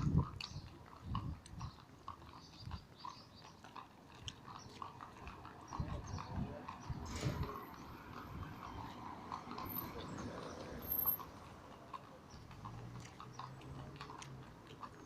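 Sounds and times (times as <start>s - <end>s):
horse hooves clopping: 0.0s - 15.0s.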